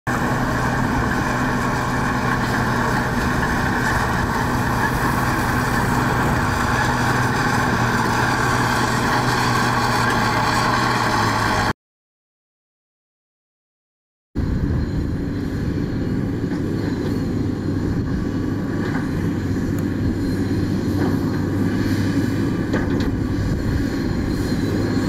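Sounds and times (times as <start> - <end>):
heavy machinery diesel engine running: 0.1 - 11.7, 14.4 - 25.0.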